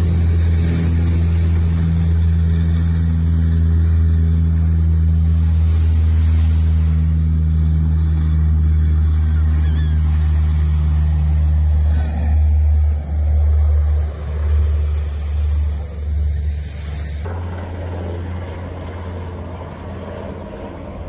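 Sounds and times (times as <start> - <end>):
propeller aircraft engines droning: 0.0 - 21.0.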